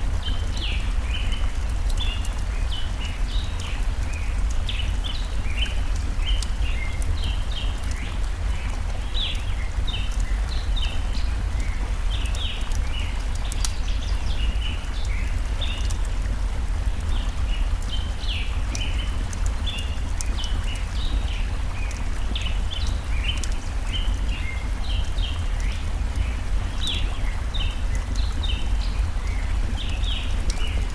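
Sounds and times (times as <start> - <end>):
stream water flowing: 0.0 - 30.9
wood fire crackles: 0.0 - 30.9.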